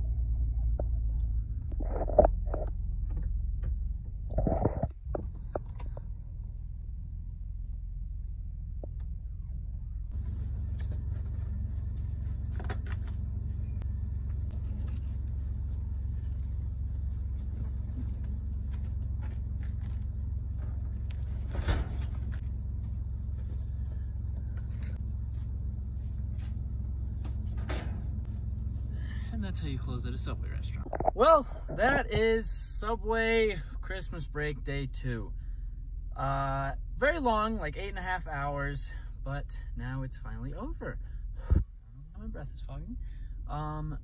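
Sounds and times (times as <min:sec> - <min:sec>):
car engine and road rumble: 0:00.0 - 0:44.0.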